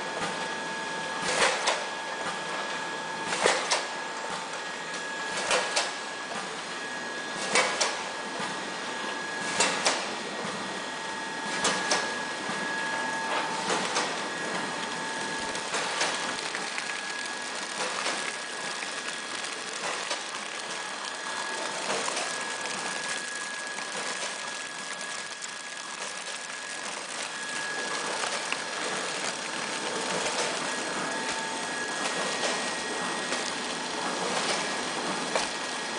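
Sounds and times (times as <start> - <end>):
machine hum with high whine: 0.0 - 35.9.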